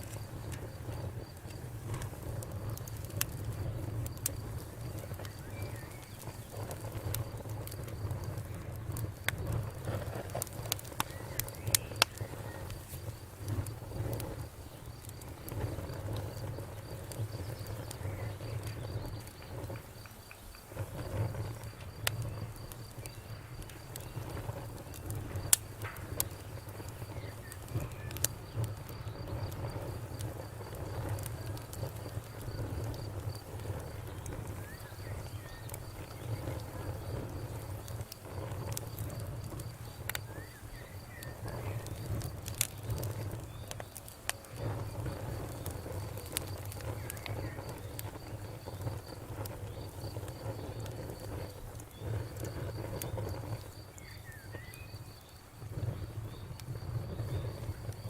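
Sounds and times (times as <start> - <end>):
campfire crackling and popping: 0.0 - 58.0
cricket chirping: 0.0 - 58.0.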